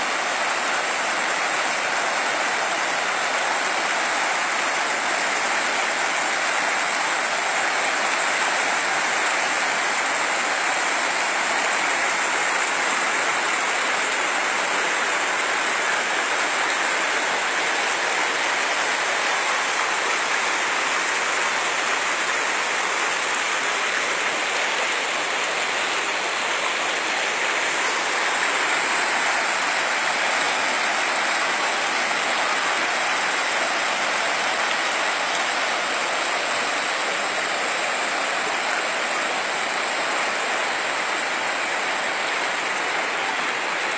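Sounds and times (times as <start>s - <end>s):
rushing floodwater: 0.0s - 43.9s.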